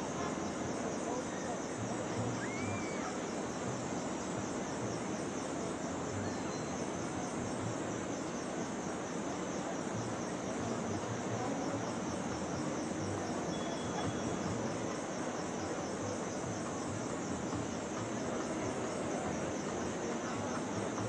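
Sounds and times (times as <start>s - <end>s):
crowd noise: 0.0s - 21.0s.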